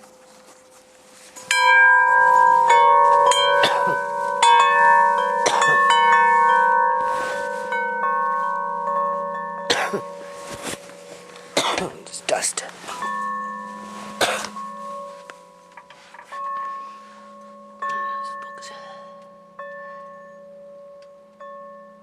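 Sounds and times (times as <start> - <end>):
metal chime bells ringing: 0.8 - 22.0.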